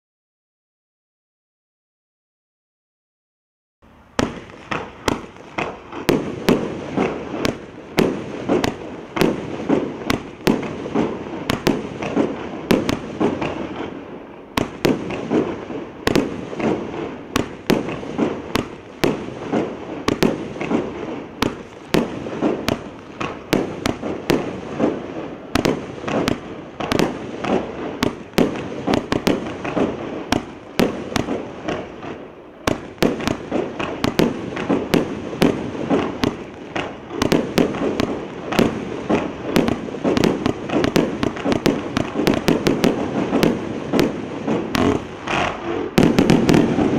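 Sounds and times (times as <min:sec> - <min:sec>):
firework cake bangs: 0:04.2 - 0:14.0, 0:14.6 - 0:46.9.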